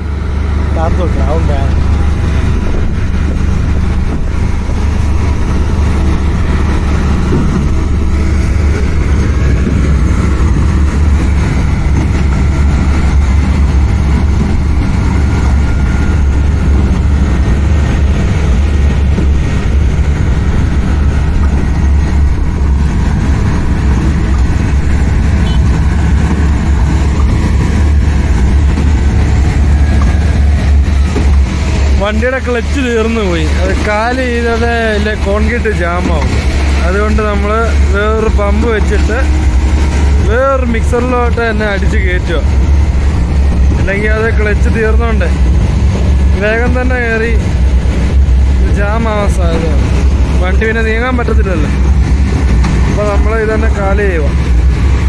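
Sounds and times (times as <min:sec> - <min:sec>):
diesel truck engines droning: 0:00.0 - 0:55.0.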